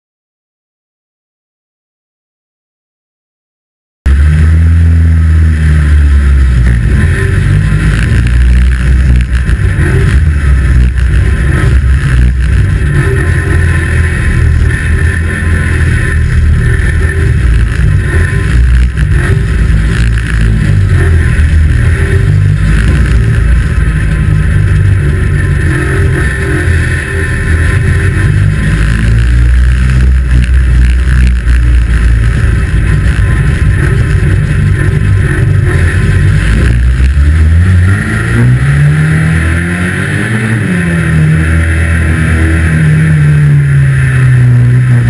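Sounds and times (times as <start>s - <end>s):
car engine running: 4.1s - 45.0s.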